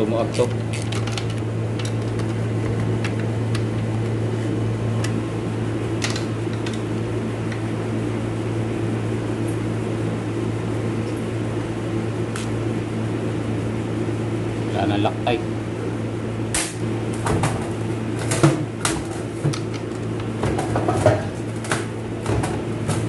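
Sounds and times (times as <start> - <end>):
fan humming: 0.0 - 23.0.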